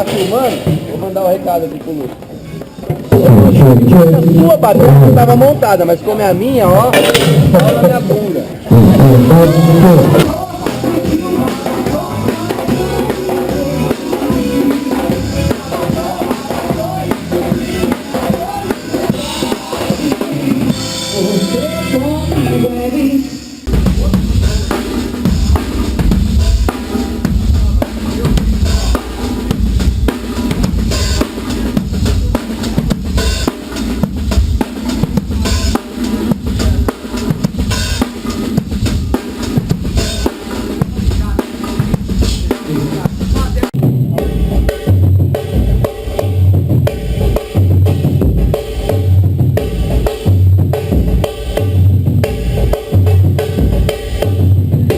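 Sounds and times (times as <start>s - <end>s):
acoustic drum kit: 0.0s - 54.9s
pitched music: 3.1s - 54.9s.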